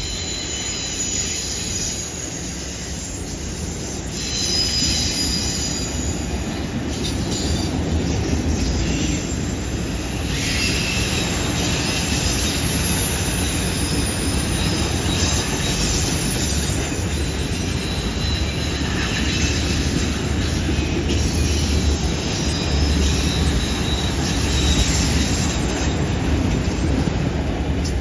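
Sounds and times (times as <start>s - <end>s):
faint high wheel squeal: 0.0s - 27.0s
train wheels rumbling on rails: 0.0s - 28.0s.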